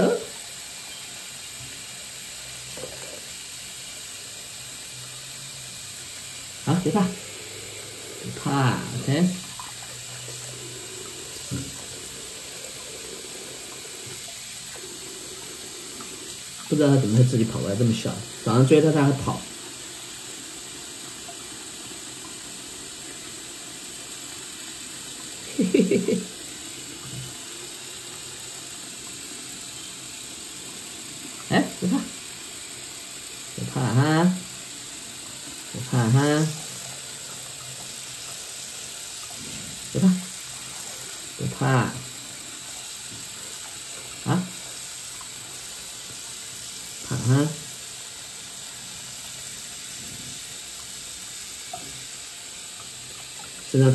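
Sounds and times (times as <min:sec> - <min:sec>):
tap water running into sink: 0:00.0 - 0:53.9.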